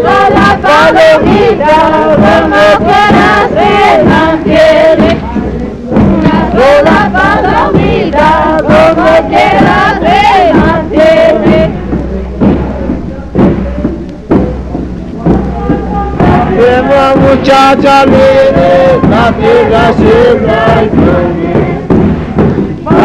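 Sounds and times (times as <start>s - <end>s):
group singing folk song in chorus: 0.0s - 23.0s
steady percussion strokes: 0.0s - 23.0s.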